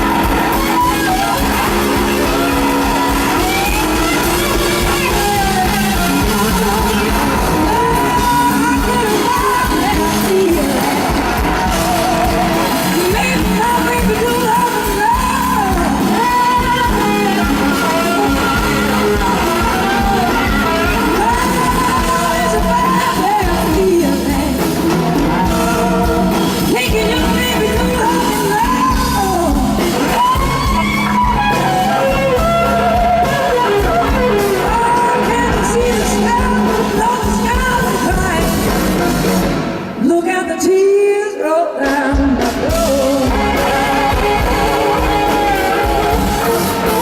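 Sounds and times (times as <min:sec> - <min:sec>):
bending lead guitar line: 0:00.0 - 0:40.5, 0:42.2 - 0:47.0
live blues rock band: 0:00.0 - 0:40.9, 0:41.7 - 0:47.0.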